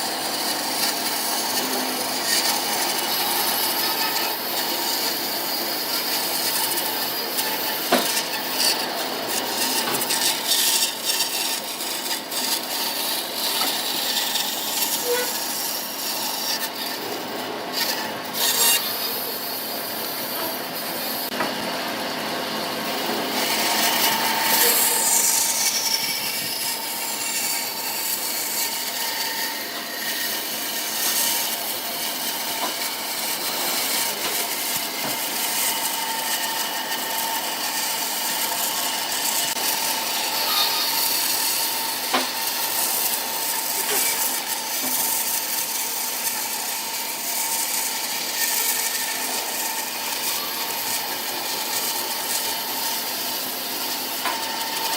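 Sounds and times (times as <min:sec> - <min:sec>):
lathe motor whine: 0:00.0 - 0:54.9
tool scraping spinning wood: 0:00.0 - 0:54.9.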